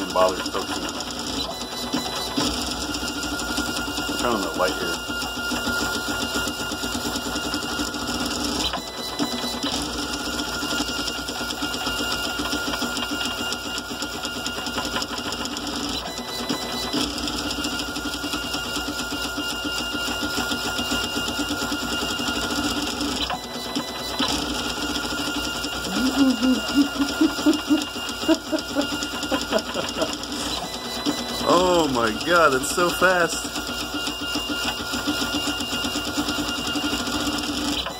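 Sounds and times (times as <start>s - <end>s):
printer motors buzzing and whining: 0.0s - 37.9s.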